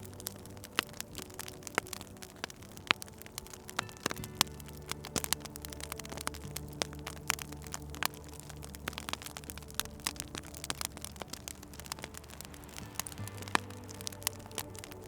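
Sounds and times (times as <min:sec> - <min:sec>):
low steady hum: 0:00.0 - 0:15.0
wood fire crackling and popping: 0:00.0 - 0:15.0.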